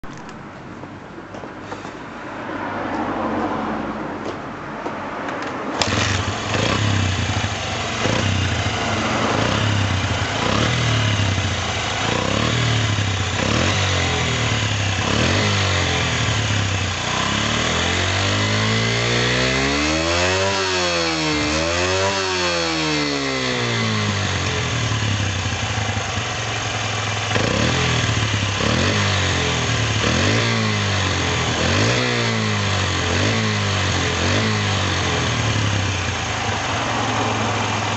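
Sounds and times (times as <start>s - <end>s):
engine revving: 5.7s - 37.9s
small engine starting and idling: 5.8s - 37.9s.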